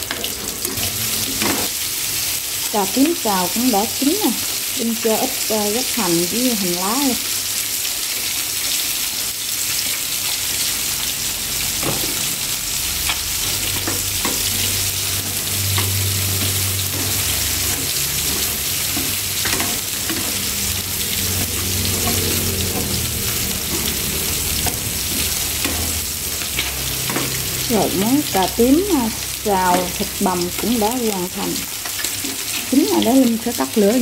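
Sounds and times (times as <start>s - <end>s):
food sizzling in a wok: 0.0s - 34.0s.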